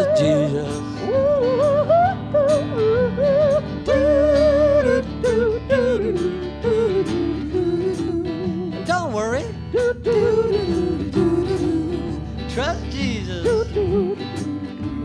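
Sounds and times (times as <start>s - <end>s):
acoustic guitars: 0.0s - 15.0s
wavering wordless lead melody: 0.0s - 15.0s.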